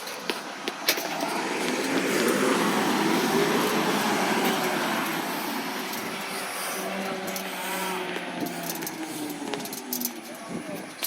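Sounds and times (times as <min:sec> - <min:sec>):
recycling truck mechanical drone: 0:00.0 - 0:11.0.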